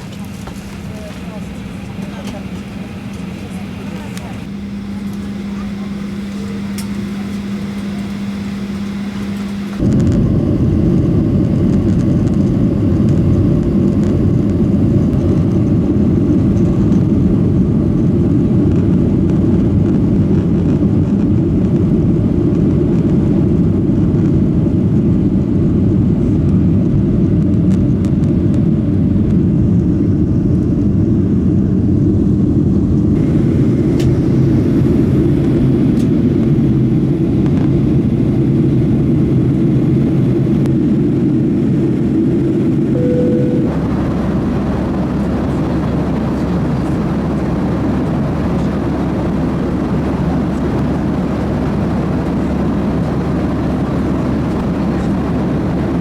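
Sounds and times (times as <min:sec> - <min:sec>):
airliner cabin engine hum: 0:00.0 - 0:56.0
jet engines rumbling at high power: 0:00.0 - 0:56.0.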